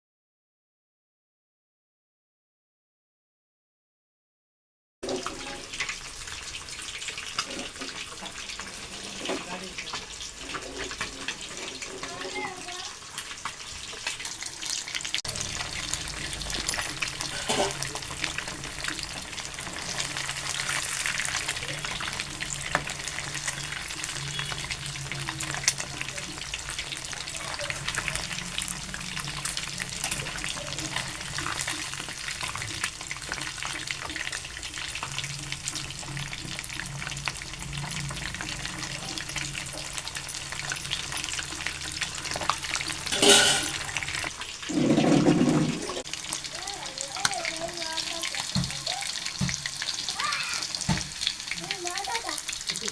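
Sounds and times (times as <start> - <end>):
fish sizzling in hot oil: 5.0 - 52.9.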